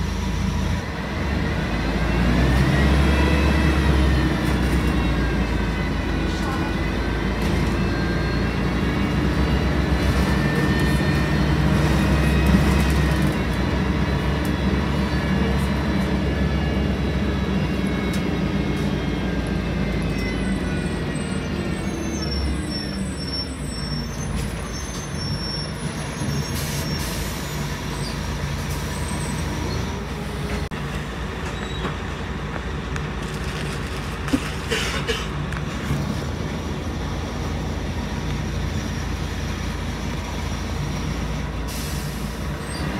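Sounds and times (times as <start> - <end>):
bus engine drone and whine: 0.0 - 42.9.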